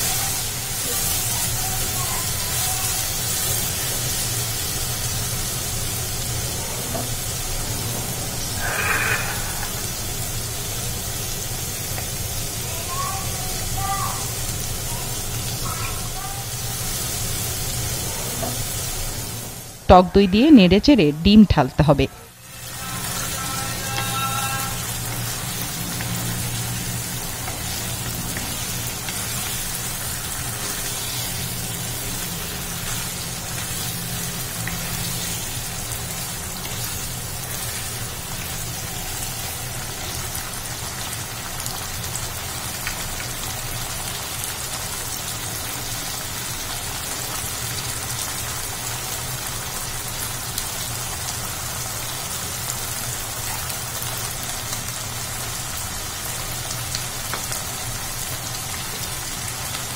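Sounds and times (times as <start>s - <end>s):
masala sizzling in a pan: 0.0s - 19.9s, 22.3s - 59.9s.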